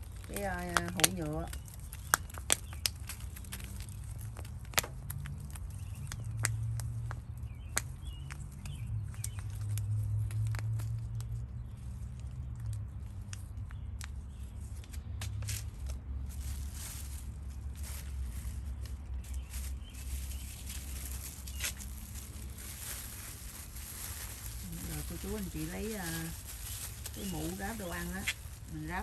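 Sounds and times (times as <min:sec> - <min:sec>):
plastic and soil crackling: 0:00.0 - 0:29.0.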